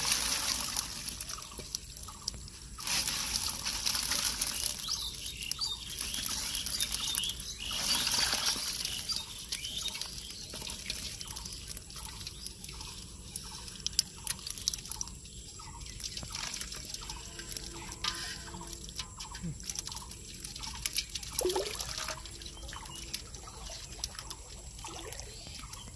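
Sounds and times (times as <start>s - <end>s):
water splashing and dripping: 0.0s - 25.9s
wet clicks of net and fish: 0.0s - 25.9s.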